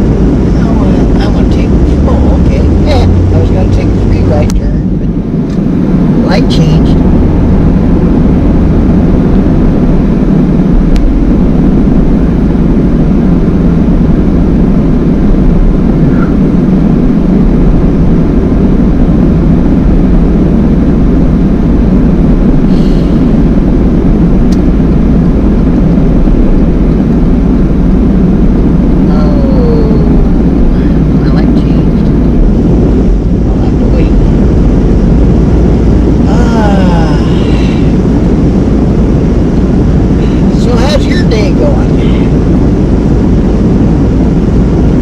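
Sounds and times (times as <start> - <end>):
van engine and tyre rumble: 0.0 - 45.0.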